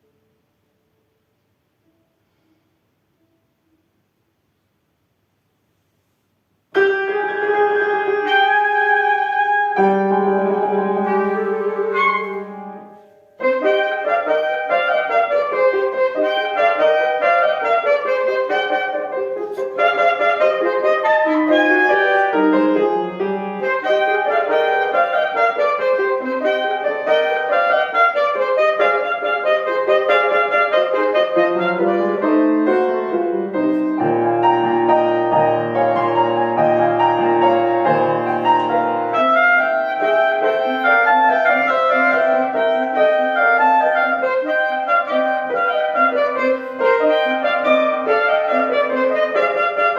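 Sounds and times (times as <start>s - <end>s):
piano accompaniment: 6.7s - 49.9s
solo wind instrument: 6.7s - 49.9s.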